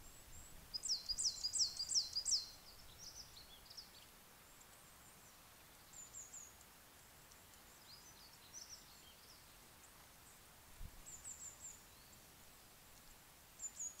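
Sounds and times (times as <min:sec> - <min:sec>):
songbird chirps: 0:00.0 - 0:14.0
steady hiss: 0:00.0 - 0:14.0.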